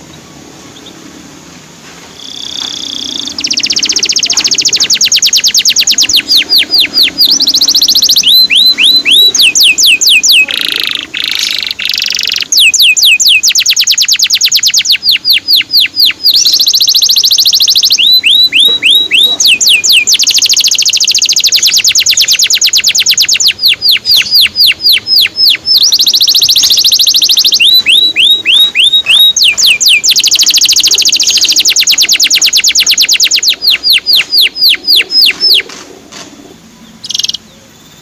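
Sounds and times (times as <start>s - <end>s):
canary singing: 0.0s - 1.4s, 2.1s - 38.0s.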